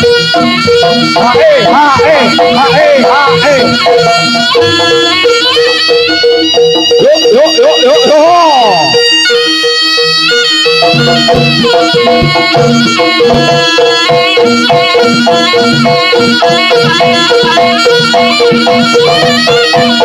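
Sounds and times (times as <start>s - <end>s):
drum strokes: 0.0s - 9.6s, 10.2s - 20.0s
shrill double-reed melody: 0.0s - 20.0s.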